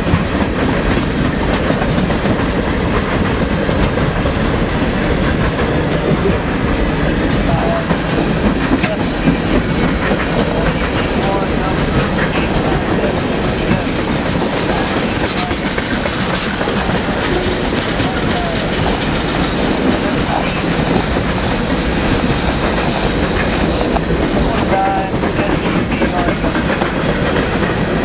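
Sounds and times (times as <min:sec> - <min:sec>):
freight train rumbling past: 0:00.0 - 0:28.0
steel wheels clicking over rail joints: 0:00.0 - 0:28.0.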